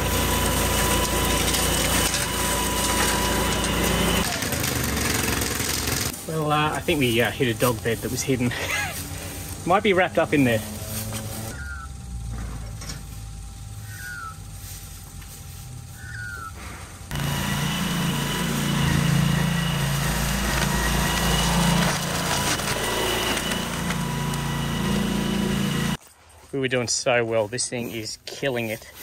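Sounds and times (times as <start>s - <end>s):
flail mower running: 0.0s - 26.0s.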